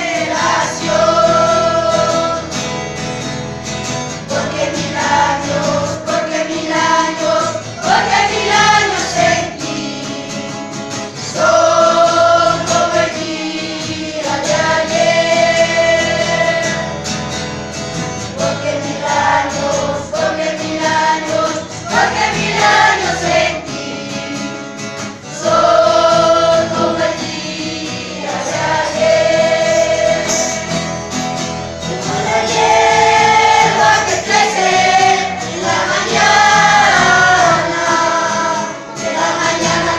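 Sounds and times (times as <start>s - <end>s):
group of voices singing: 0.0s - 3.1s, 4.1s - 17.4s, 18.0s - 39.9s
instrumental backing: 0.0s - 39.9s.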